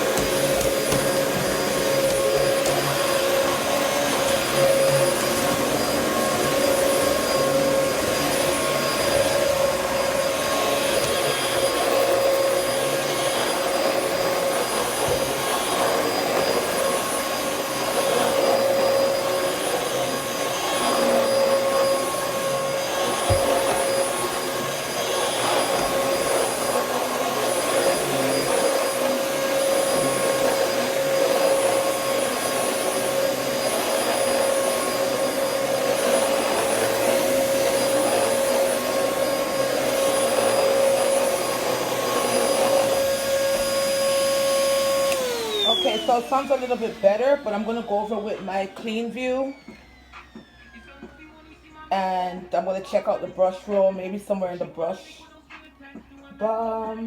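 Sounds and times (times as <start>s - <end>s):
vacuum cleaner running: 0.0s - 55.2s.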